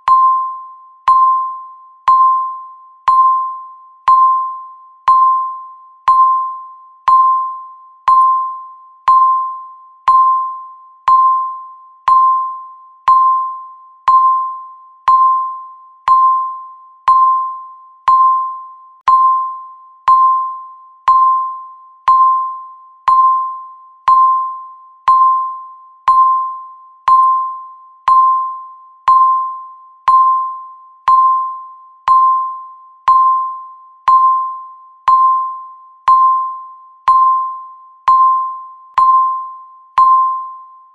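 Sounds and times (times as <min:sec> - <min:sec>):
countdown timer beep: 0:00.0 - 0:40.9.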